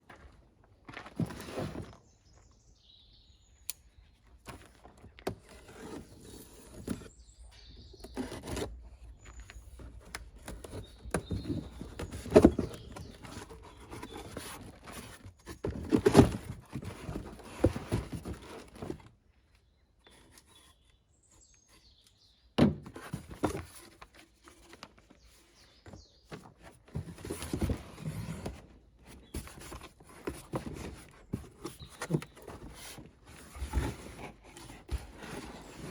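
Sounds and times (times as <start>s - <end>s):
boxes knocking and scraping: 0.9s - 2.1s, 4.5s - 19.2s, 22.6s - 35.9s
birds chirping faintly: 1.6s - 35.9s.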